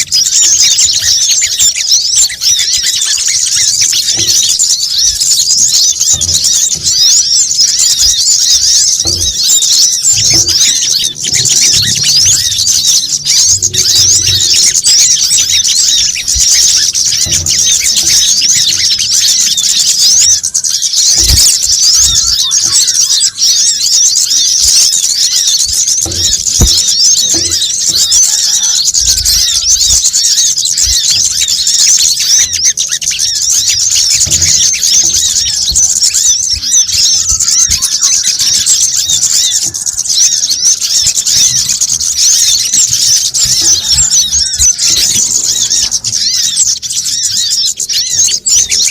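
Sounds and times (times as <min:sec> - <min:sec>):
small birds chirping and twittering: 0:00.0 - 0:48.9.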